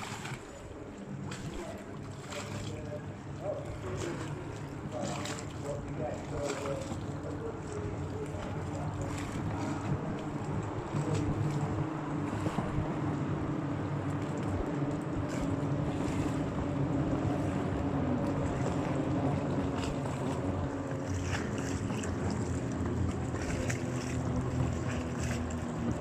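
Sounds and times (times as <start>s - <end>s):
powerboat engines droning: 0.0s - 26.0s
wind buffeting microphone: 3.4s - 26.0s.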